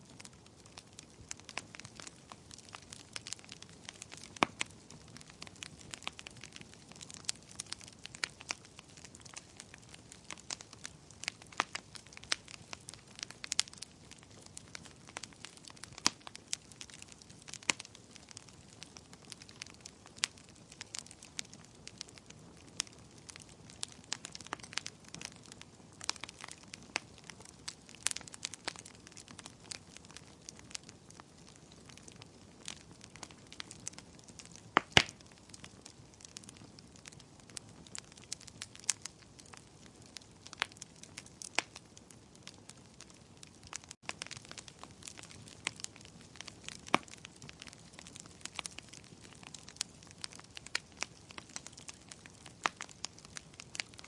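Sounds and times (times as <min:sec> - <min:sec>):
campfire crackling: 0:00.0 - 0:54.0
low hiss of burning: 0:00.0 - 0:54.0.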